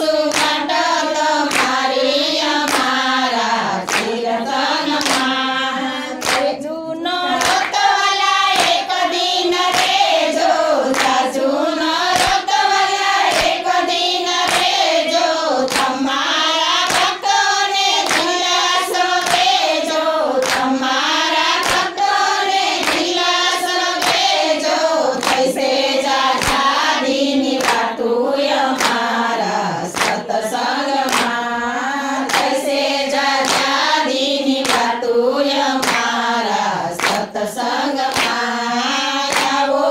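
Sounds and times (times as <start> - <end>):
hand-clapping: 0.0 - 39.9
women singing in unison: 0.0 - 39.9.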